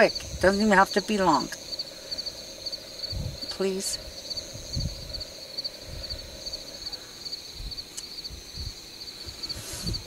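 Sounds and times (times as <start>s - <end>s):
faint low bumps: 0.0s - 10.0s
insects trilling: 0.0s - 10.0s.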